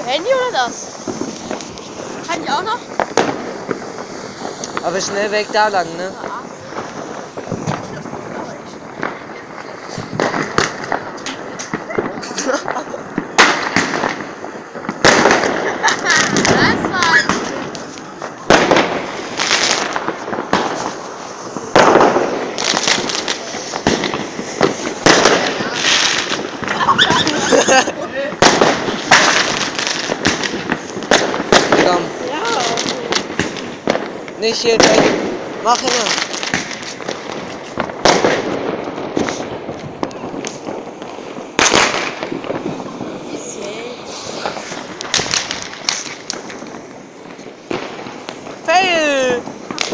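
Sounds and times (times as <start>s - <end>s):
firework bangs: 0.0s - 49.9s
firework crackle: 0.0s - 49.9s.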